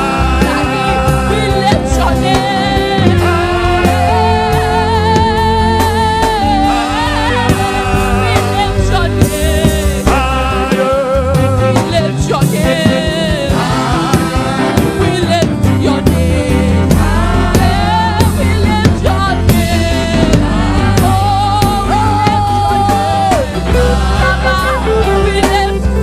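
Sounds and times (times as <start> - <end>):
band with drums and bass: 0.0 - 26.0
person singing with vibrato: 0.0 - 26.0.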